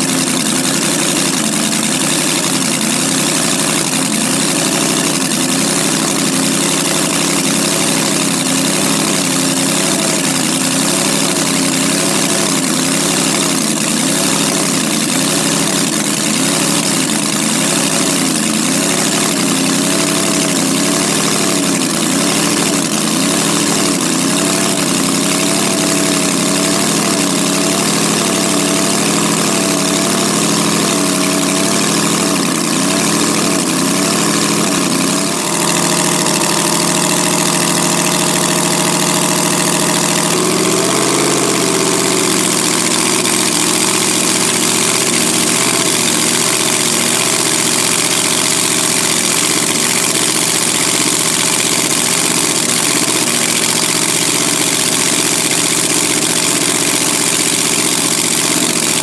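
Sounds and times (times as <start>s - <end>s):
racing car engines idling: 0.0s - 59.0s.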